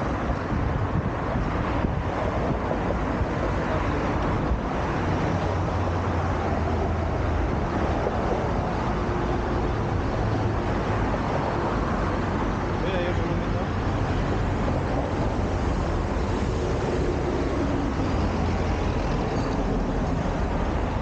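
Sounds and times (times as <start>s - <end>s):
road traffic noise: 0.0s - 21.0s.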